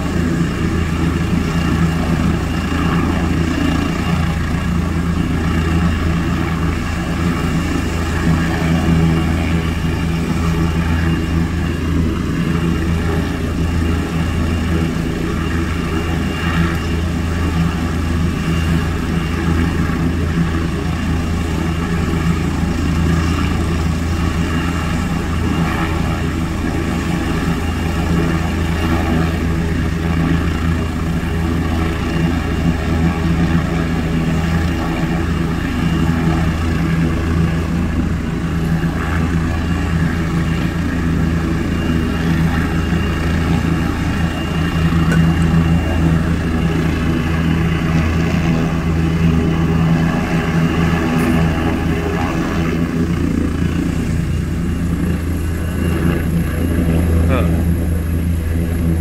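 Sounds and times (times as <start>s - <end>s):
helicopter engine and rotor hum: 0.0s - 59.0s.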